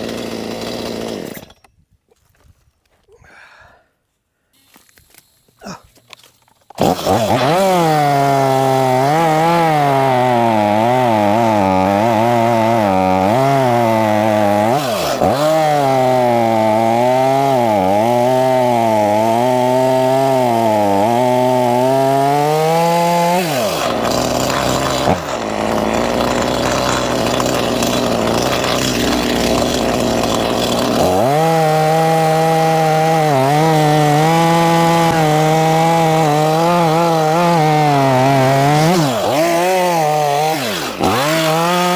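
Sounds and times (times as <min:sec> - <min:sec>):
chainsaw cutting wood: 0:00.0 - 0:01.8, 0:04.6 - 0:41.9.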